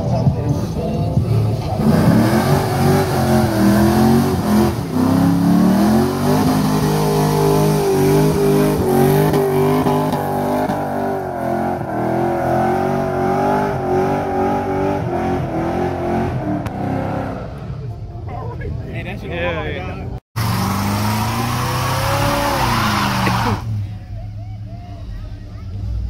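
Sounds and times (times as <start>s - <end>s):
car engine revving: 0.0s - 18.0s, 20.4s - 24.0s.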